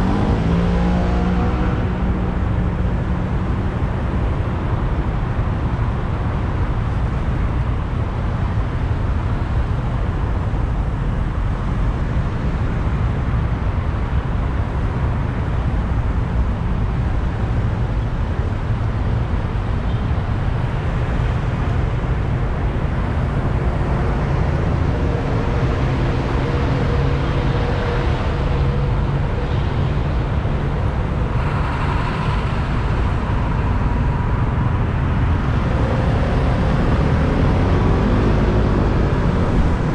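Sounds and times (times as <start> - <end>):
humming tones from vehicles: 0.0 - 39.9.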